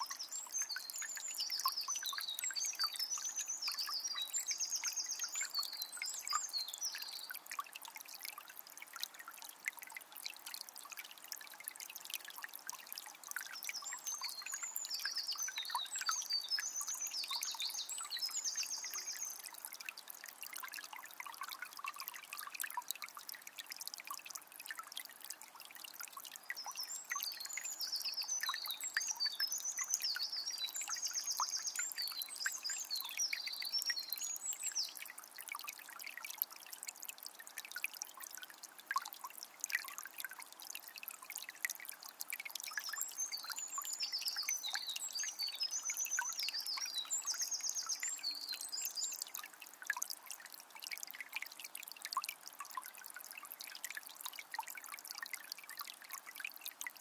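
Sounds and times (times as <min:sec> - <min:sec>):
river flowing and trickling: 0:00.0 - 0:57.0.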